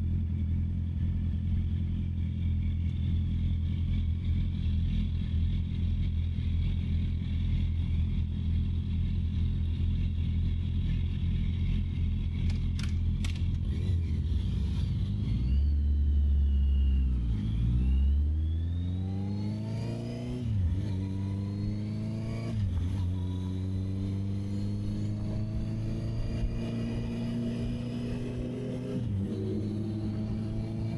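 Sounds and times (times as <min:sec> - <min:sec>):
motorcycle engine: 0:00.0 - 0:30.9.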